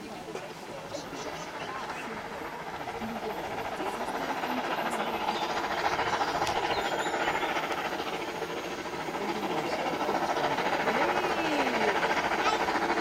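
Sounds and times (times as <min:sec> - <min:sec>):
steam train running: 0:00.0 - 0:13.0.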